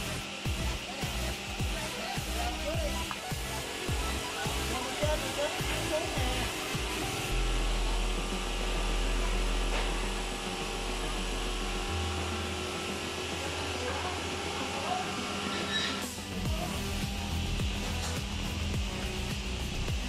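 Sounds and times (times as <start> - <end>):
machine motors humming: 0.0 - 20.0.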